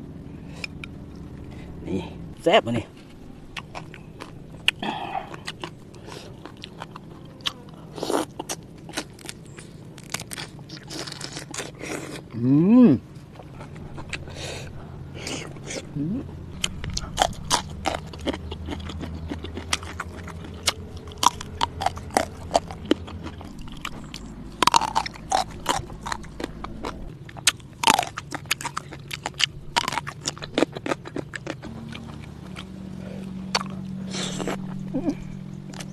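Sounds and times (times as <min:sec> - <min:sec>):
crunching and chewing: 0:00.0 - 0:02.0, 0:02.8 - 0:12.5, 0:13.1 - 0:35.9.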